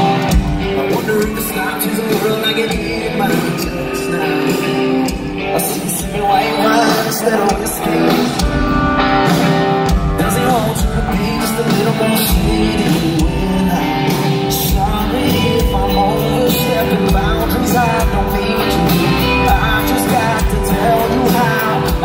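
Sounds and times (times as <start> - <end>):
man singing into microphone: 0.0 - 8.8, 9.8 - 22.0
country band playing: 0.0 - 22.0.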